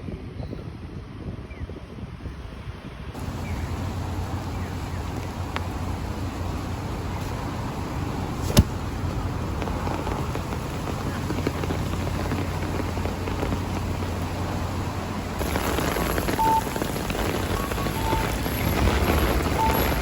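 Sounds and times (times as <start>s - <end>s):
wind rumbling on microphone: 0.0s - 20.0s
heavy rain: 3.2s - 20.0s.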